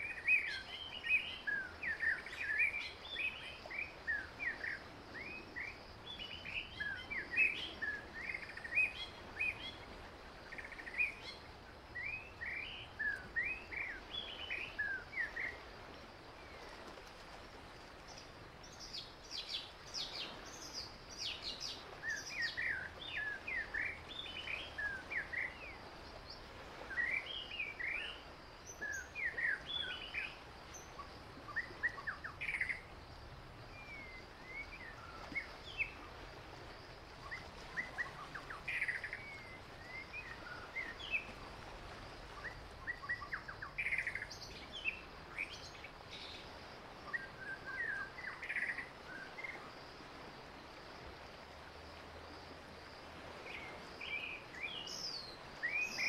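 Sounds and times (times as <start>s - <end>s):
faint outdoor hiss: 0.0s - 56.0s
songbirds chirping: 0.0s - 56.0s.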